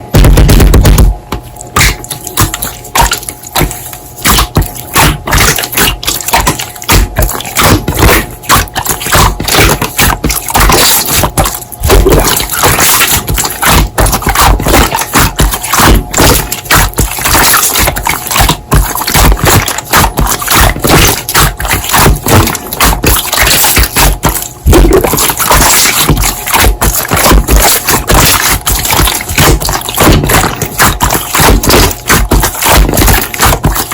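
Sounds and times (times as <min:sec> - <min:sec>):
hands squishing slime: 0:00.0 - 0:33.9.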